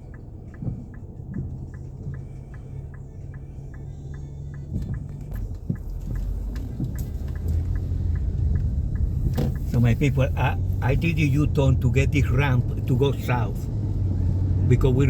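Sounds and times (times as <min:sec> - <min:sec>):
engine and road rumble: 0:00.0 - 0:15.0
turn signal clicking: 0:00.0 - 0:15.0.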